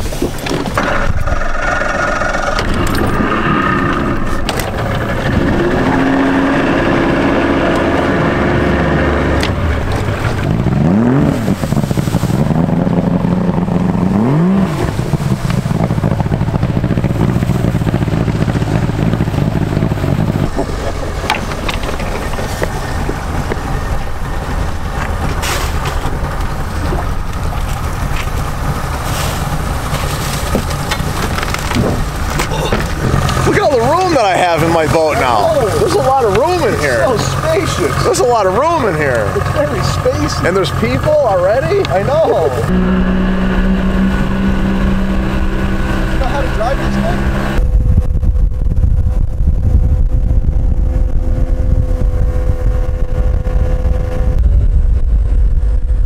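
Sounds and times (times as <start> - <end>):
water rushing noise: 0.0 - 47.6
boat motor revving: 0.0 - 56.0.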